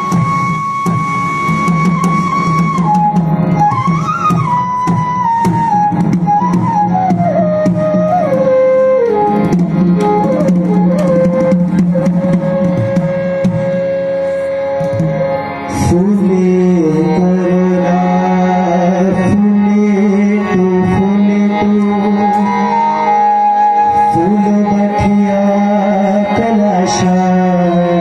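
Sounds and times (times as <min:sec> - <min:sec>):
steady drumming: 0:00.0 - 0:22.8
folk melody line: 0:00.0 - 0:28.0.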